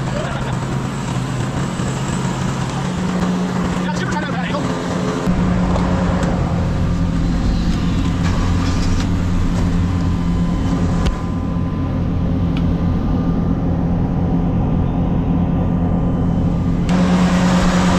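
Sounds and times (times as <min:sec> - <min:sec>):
skid steer engine running: 0:00.0 - 0:17.9.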